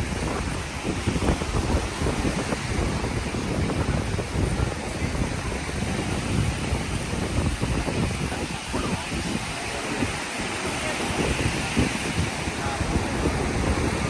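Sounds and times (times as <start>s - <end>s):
surf breaking on shore: 0.0s - 14.0s
wind buffeting microphone: 0.0s - 14.0s.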